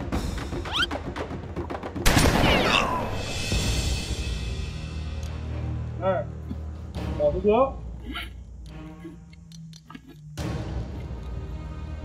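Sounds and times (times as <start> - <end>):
background music with knocking beat: 0.0 - 2.3, 3.3 - 12.0.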